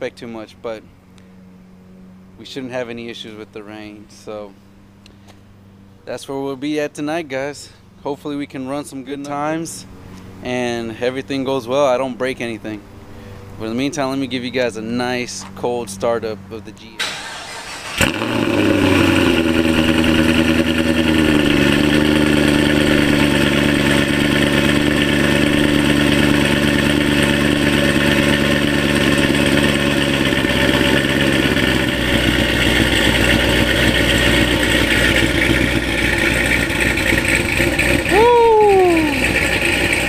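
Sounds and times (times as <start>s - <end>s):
car engine starting and idling: 7.6s - 40.0s.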